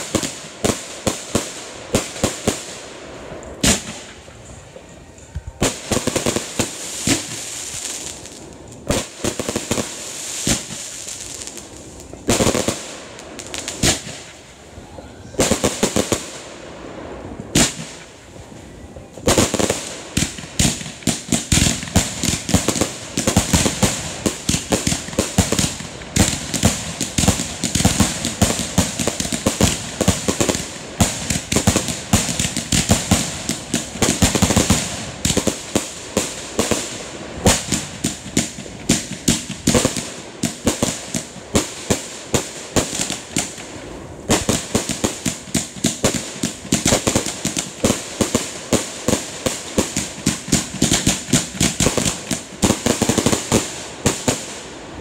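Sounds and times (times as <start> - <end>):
firework bursts crackling: 0.0 - 55.0.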